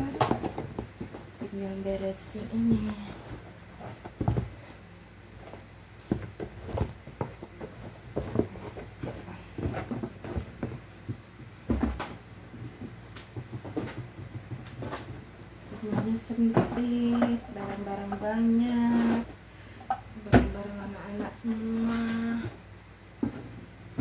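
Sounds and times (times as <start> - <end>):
household objects clattering: 0.0 - 22.5.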